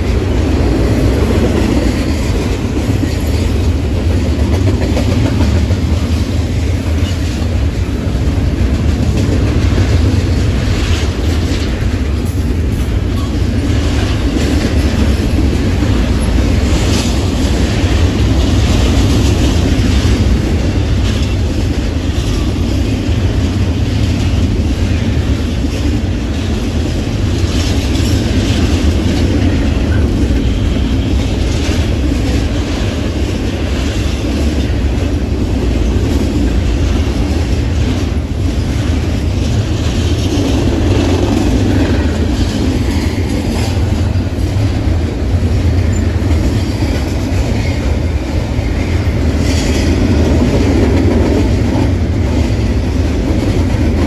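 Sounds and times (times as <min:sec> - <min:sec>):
freight train rumble: 0:00.0 - 0:54.0
wheels clicking over rail joints: 0:00.0 - 0:54.0.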